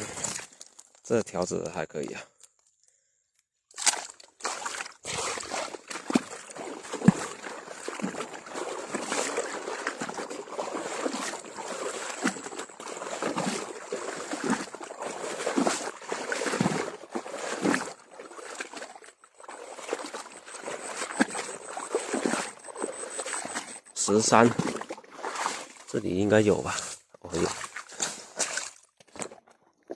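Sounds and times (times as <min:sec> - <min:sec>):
water sloshing and dribbling: 0:00.0 - 0:02.0, 0:03.7 - 0:29.9.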